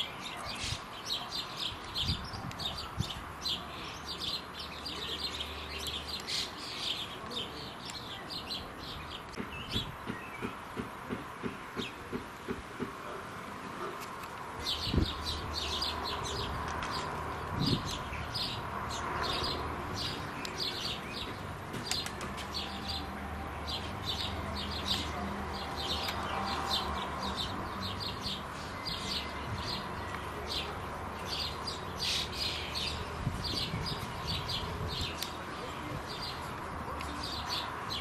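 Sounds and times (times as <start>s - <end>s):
sparrows chirping: 0.0s - 10.9s, 11.5s - 13.2s, 13.8s - 38.0s.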